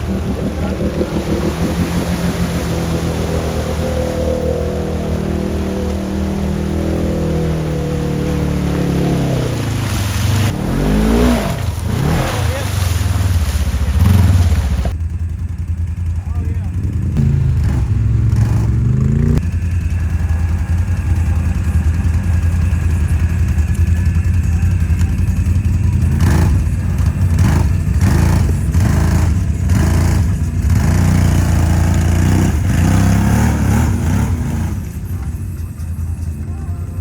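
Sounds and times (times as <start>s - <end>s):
atv engine revving: 0.0s - 37.0s.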